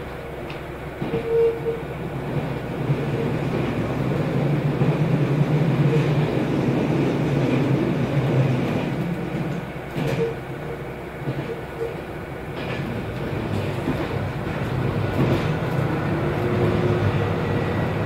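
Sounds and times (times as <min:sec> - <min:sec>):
diesel railcar running: 0:00.0 - 0:18.0.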